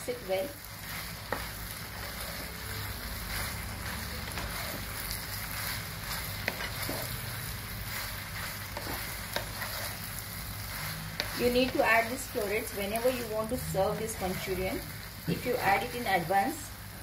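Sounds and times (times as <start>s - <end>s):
food sizzling in a frying pan: 0.0s - 17.0s
wooden spatula stirring in sauce: 0.1s - 16.2s.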